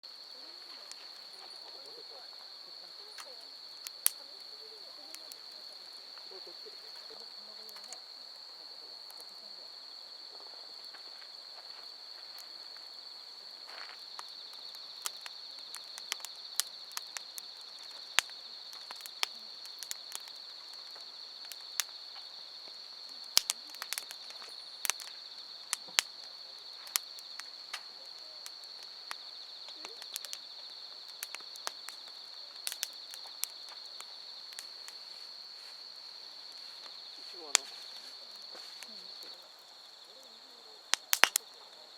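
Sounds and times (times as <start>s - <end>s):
campfire crackling: 0.0s - 41.9s
firewood popping: 0.0s - 41.9s
night insects trilling: 0.0s - 41.9s.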